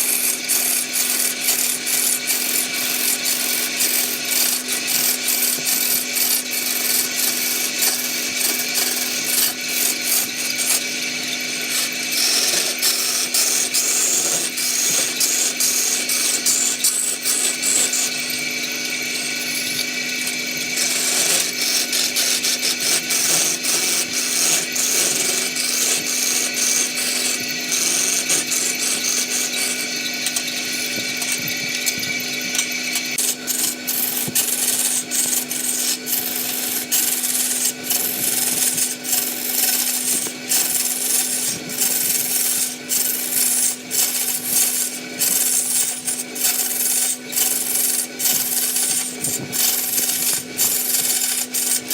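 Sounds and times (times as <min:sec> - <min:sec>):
tool scraping turning wood: 0:00.0 - 0:51.9
wood lathe motor humming: 0:00.0 - 0:51.9.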